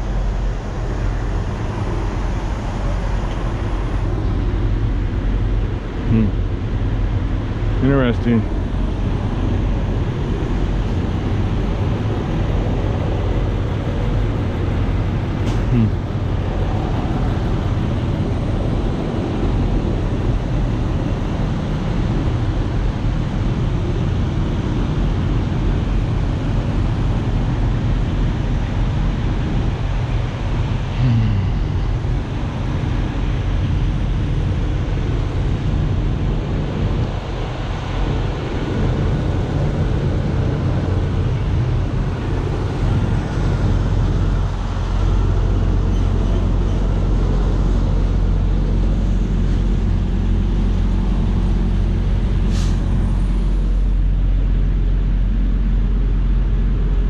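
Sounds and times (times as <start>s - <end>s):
diesel engine humming: 0.0s - 57.0s
road and wind noise: 0.0s - 57.0s.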